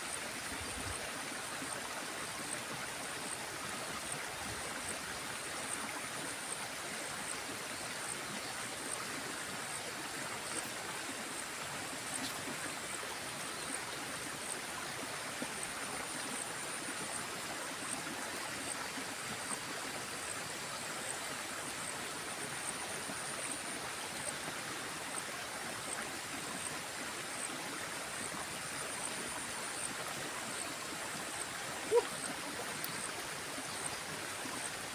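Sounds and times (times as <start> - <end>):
small stream running: 0.0 - 34.9.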